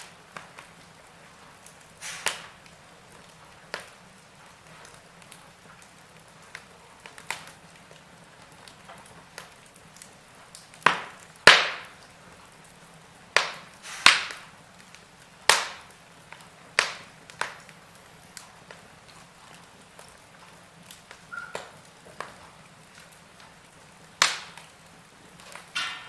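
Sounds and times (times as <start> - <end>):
faint steady hiss: 0.0 - 26.0
wood fire crackling and popping: 0.0 - 26.0.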